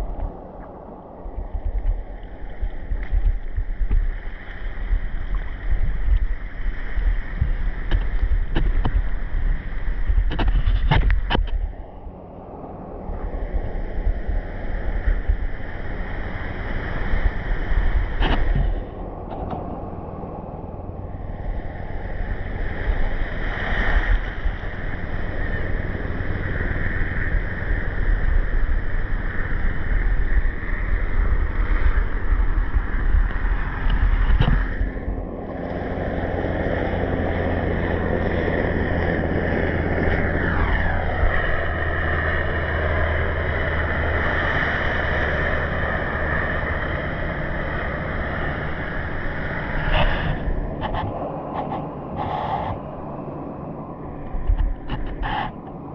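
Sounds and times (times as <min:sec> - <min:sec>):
low motor-like drone: 0:00.0 - 0:55.9
underwater water noise: 0:00.0 - 0:55.9.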